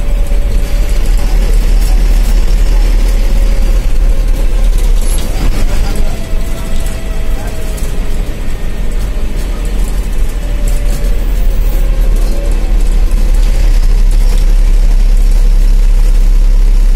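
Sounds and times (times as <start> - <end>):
large vehicle engine rumbling: 0.0 - 16.9.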